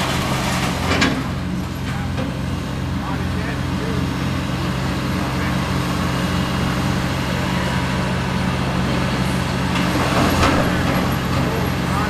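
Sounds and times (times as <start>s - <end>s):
heavy machinery diesel engines droning: 0.0s - 12.0s.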